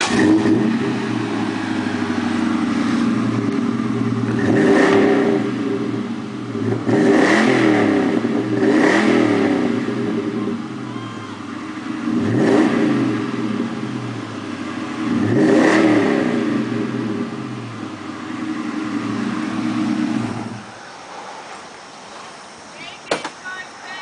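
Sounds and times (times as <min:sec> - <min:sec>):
car exhaust revving: 0:00.0 - 0:21.6.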